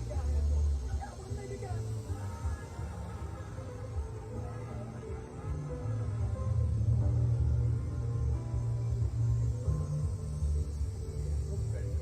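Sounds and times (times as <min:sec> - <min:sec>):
music with heavy pulsing bass: 0:00.0 - 0:12.0.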